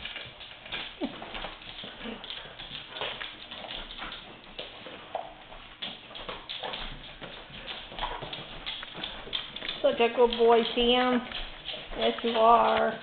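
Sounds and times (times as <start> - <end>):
dog eating: 0.0 - 13.0.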